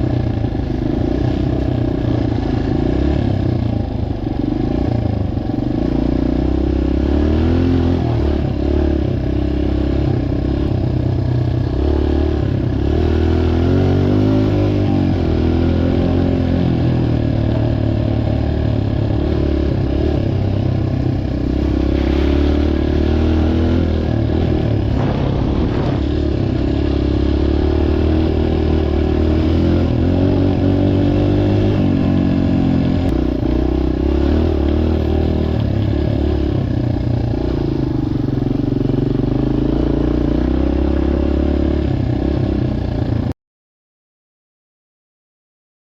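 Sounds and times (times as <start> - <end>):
dirt bike engine revving: 0.0 - 43.3.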